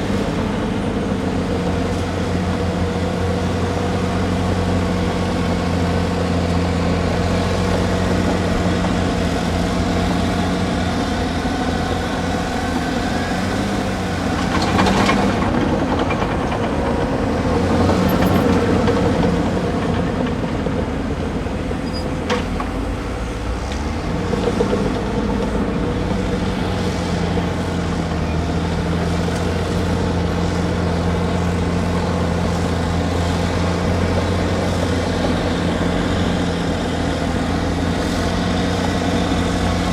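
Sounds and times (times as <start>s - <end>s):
excavator diesel engines running: 0.0s - 39.9s.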